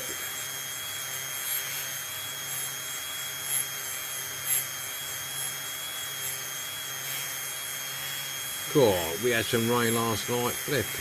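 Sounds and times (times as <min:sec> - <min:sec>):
rotary tool whining: 0:00.0 - 0:11.0.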